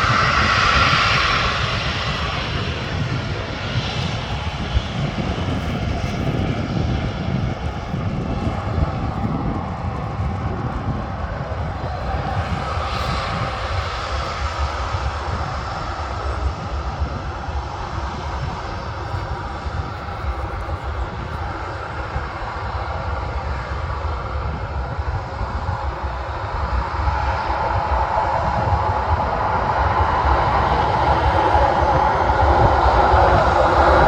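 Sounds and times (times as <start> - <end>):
aircraft engines rumbling: 0.0 - 34.0
engine whine: 0.0 - 34.0.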